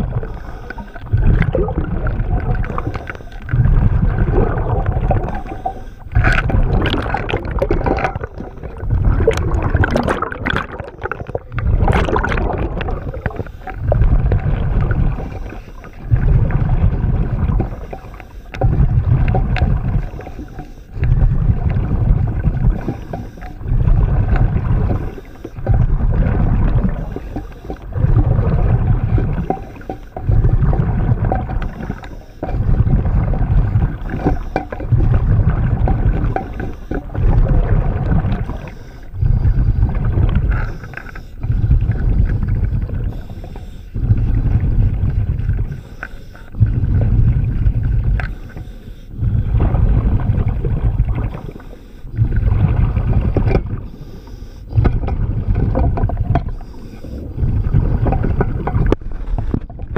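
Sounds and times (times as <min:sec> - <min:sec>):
bubbling exhalations: 0:00.0 - 0:54.0, 0:54.7 - 0:59.9
diver breathing through regulator: 0:00.0 - 0:59.7.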